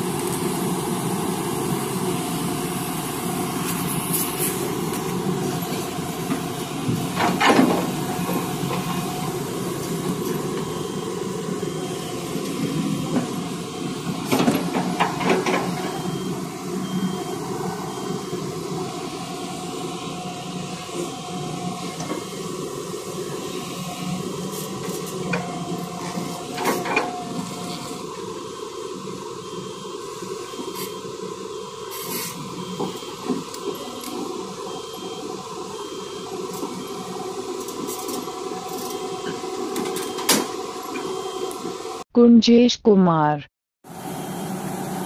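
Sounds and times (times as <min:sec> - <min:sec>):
excavator diesel engine running: 0:00.0 - 0:42.0, 0:43.8 - 0:45.0.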